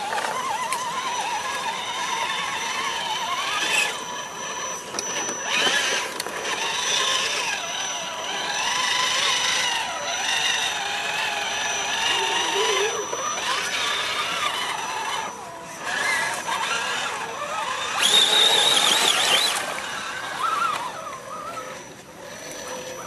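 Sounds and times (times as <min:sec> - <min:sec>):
rc truck motor whine: 0:00.0 - 0:23.0.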